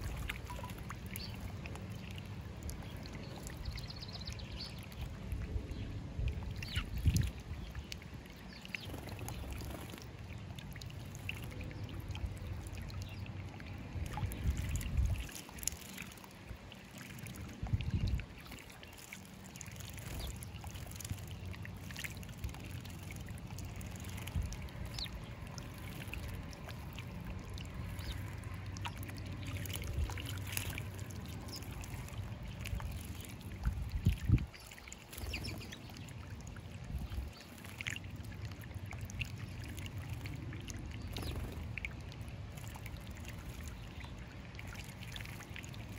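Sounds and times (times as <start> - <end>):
birds splashing and fluttering in water: 0.0 - 45.9
water trickling from bubbler: 0.0 - 45.9.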